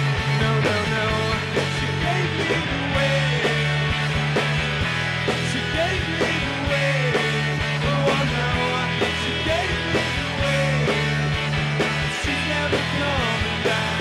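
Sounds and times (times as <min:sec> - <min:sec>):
man singing: 0:00.0 - 0:03.8, 0:05.4 - 0:11.2, 0:12.1 - 0:14.0
live rock band playing: 0:00.0 - 0:14.0.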